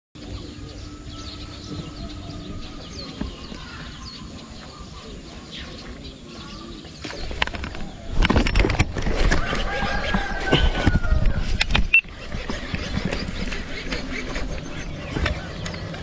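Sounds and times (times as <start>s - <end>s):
birds chirping: 0.2s - 16.0s.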